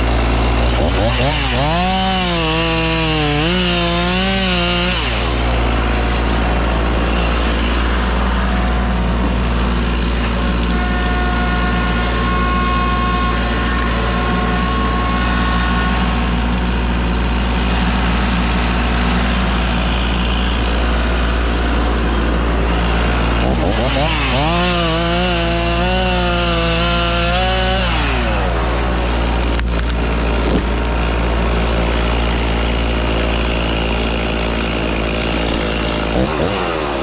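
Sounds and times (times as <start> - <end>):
chainsaw engine droning: 0.0 - 37.0.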